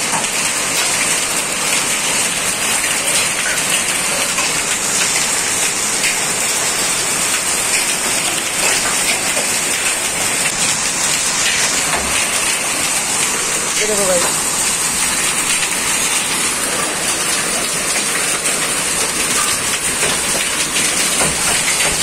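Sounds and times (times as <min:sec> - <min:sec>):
hailstones ticking on hard surfaces: 0:00.0 - 0:22.0
heavy rain and hail: 0:00.0 - 0:22.0.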